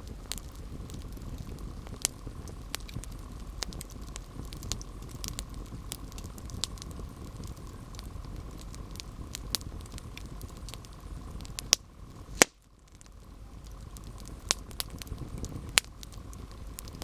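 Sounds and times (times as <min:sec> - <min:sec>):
campfire crackling: 0:00.0 - 0:17.0
low rumble of burning wood: 0:00.0 - 0:17.0
sharp pops of fire: 0:00.0 - 0:17.0.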